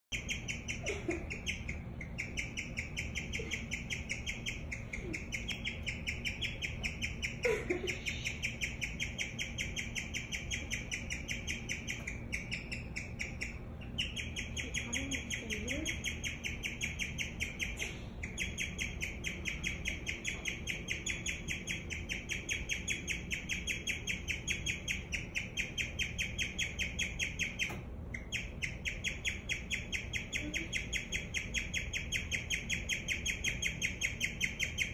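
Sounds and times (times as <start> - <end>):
guinea pig chirping: 0.1 - 34.9.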